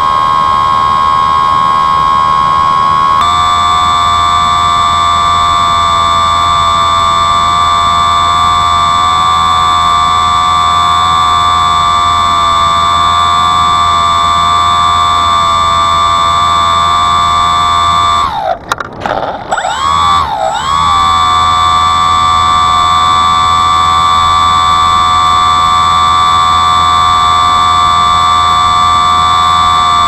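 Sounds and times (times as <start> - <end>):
drone propeller whining: 0.0 - 30.0
low hum: 0.0 - 30.0.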